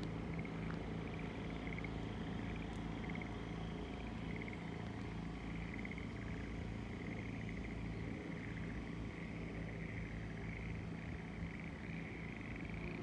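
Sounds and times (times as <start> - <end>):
frogs trilling: 0.0 - 13.0
low steady hum: 0.0 - 13.0.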